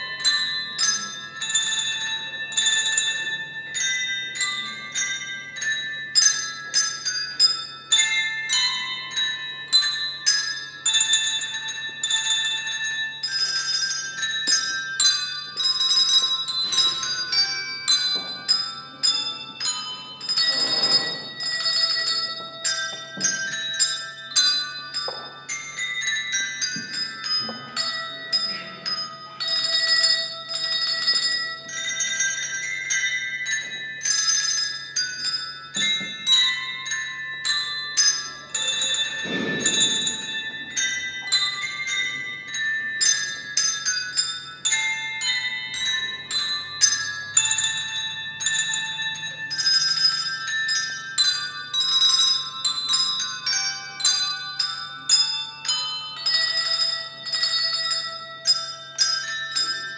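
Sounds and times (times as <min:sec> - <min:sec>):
tuned bells ringing: 0:00.0 - 0:59.9.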